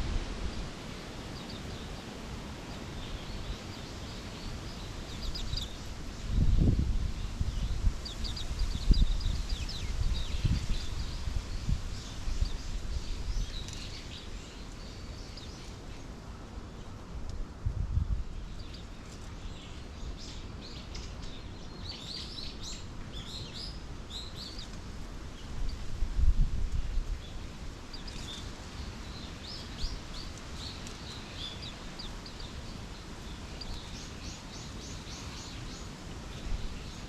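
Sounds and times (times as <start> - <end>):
wind rumbling on microphone: 0.0 - 37.0
small birds chirping: 0.4 - 17.0, 18.3 - 25.9, 26.8 - 37.0.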